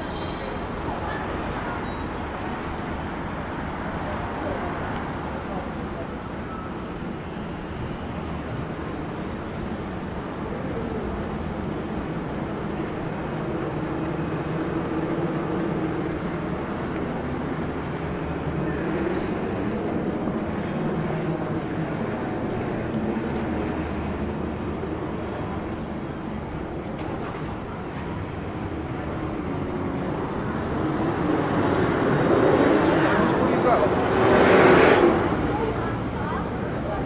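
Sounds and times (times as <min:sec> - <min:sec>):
outdoor city noise: 0:00.0 - 0:37.0.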